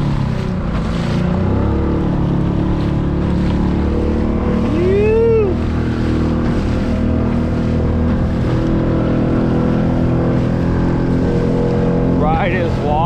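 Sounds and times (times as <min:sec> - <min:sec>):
outboard motor running: 0:00.0 - 0:13.0
water rushing against hull: 0:00.0 - 0:13.0.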